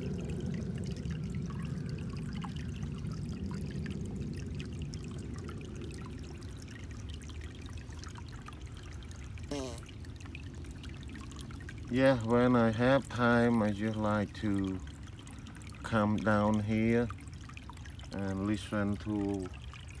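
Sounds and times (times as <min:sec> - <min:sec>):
creek trickling over rocks: 0:00.0 - 0:20.0.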